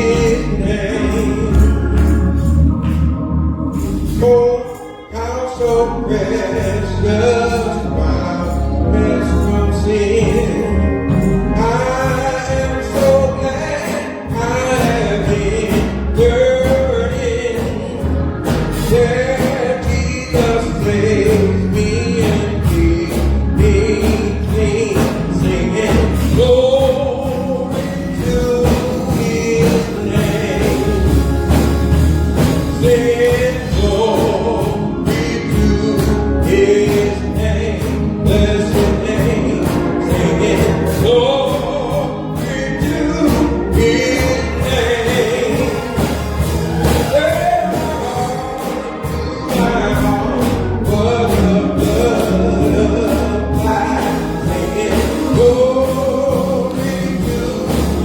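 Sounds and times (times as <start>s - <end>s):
gospel singing over a band: 0.0s - 58.0s.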